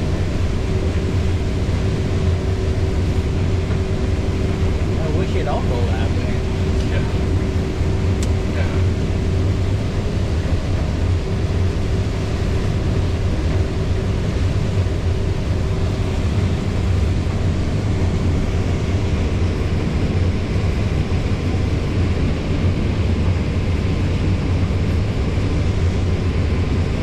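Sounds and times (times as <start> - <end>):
combine harvester engine droning: 0.0 - 27.0.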